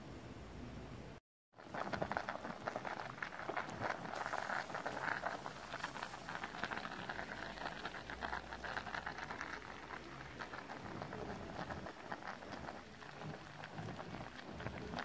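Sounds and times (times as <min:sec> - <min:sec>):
pot of water boiling: 0:01.5 - 0:15.0.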